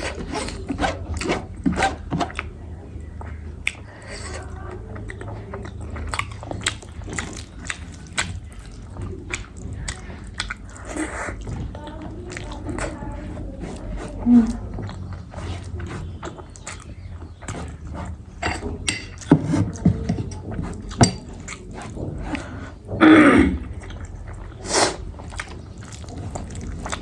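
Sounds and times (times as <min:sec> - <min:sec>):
person chewing: 0:00.0 - 0:27.0.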